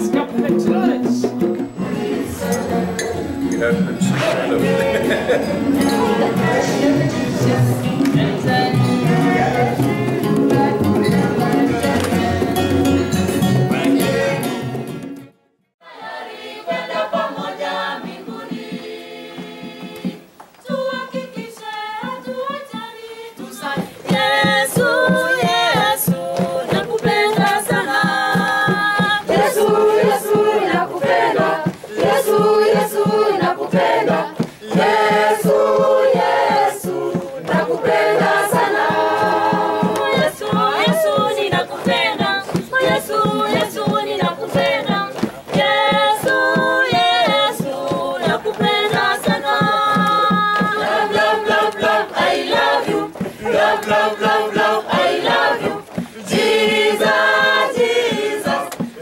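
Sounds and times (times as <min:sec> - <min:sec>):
rhythmic beat: 0:00.0 - 0:15.2, 0:15.9 - 0:59.0
choir singing in harmony: 0:00.0 - 0:59.0.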